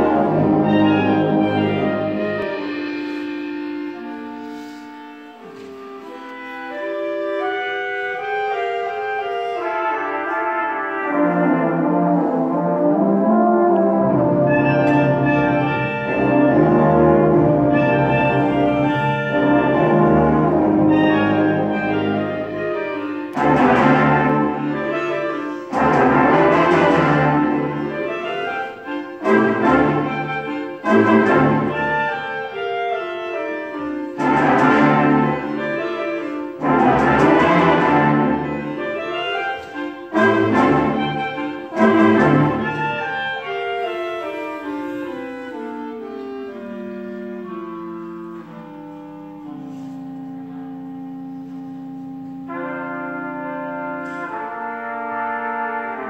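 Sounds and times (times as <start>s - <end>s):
band playing with brass: 0.0s - 56.0s.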